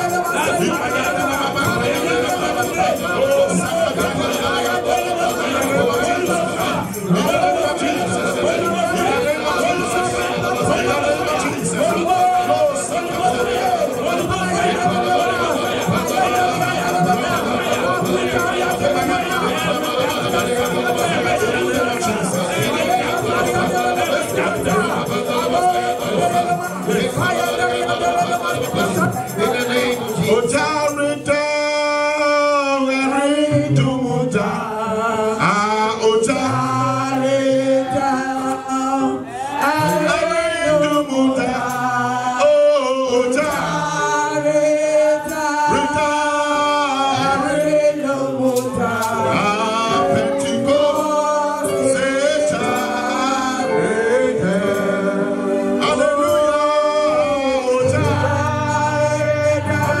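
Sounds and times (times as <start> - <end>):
man singing gospel: 0.0 - 60.0.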